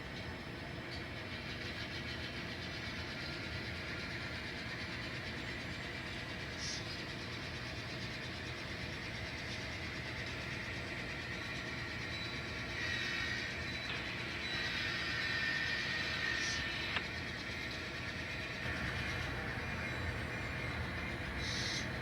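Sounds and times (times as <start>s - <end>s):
high-pitched motor whine: 0.0s - 22.0s
model locomotive running: 0.0s - 22.0s.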